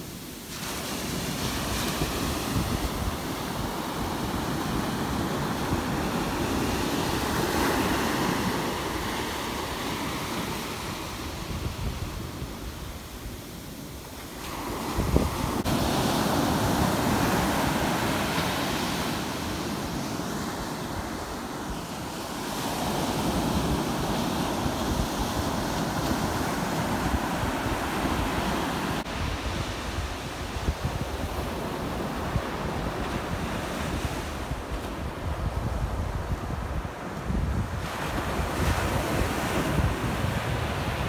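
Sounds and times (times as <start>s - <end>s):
surf breaking on sand: 0.0s - 41.0s
wind buffeting microphone: 1.0s - 41.0s.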